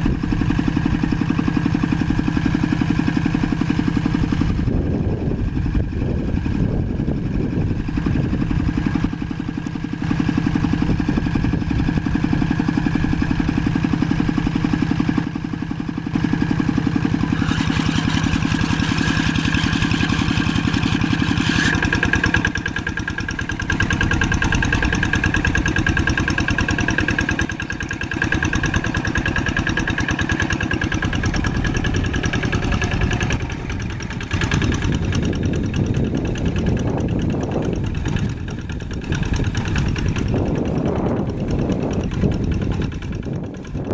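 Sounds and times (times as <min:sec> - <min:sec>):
old tractor engine running: 0:00.0 - 0:43.9.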